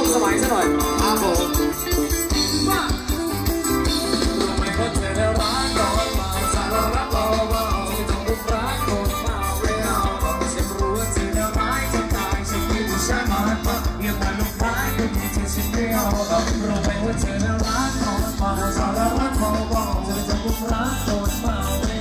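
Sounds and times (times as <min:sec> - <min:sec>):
live band music over pa: 0:00.0 - 0:22.0
steady drum beat: 0:00.0 - 0:22.0.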